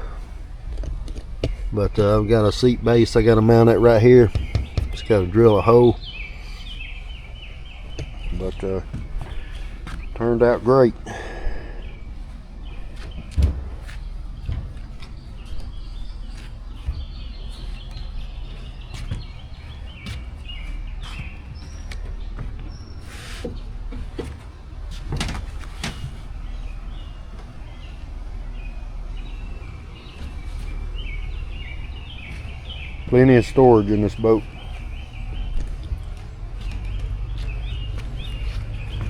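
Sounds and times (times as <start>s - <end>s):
low steady rumble: 0.0s - 39.0s
small birds chirping: 0.0s - 39.0s.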